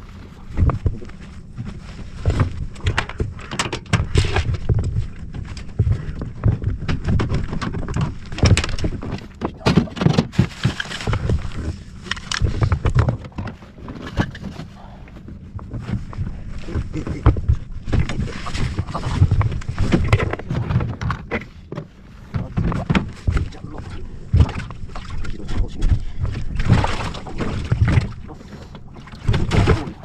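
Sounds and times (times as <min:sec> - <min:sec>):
wind rumble on microphone: 0:00.0 - 0:30.0
gear knocking and rattling: 0:00.5 - 0:14.6, 0:15.6 - 0:30.0.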